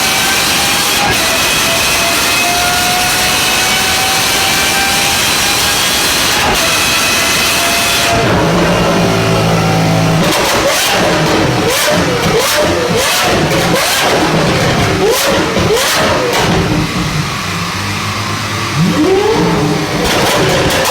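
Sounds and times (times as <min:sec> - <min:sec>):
car engine at high revs: 0:00.0 - 0:20.9
car engine idling and revving: 0:00.0 - 0:20.9.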